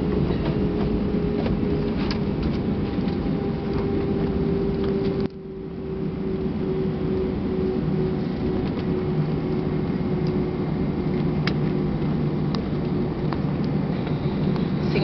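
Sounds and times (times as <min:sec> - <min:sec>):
aircraft cabin rumble: 0:00.0 - 0:15.0
steady hum: 0:00.0 - 0:15.0.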